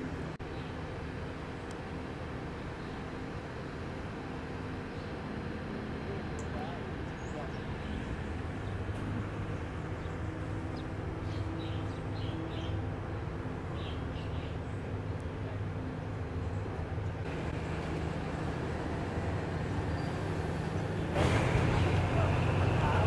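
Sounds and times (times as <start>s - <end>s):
passenger train rolling slowly: 0.0s - 23.0s.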